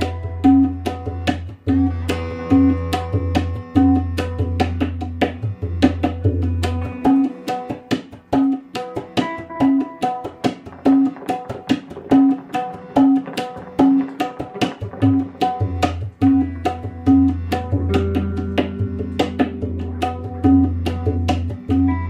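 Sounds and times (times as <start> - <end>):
quick percussion strokes: 0.0 - 22.0.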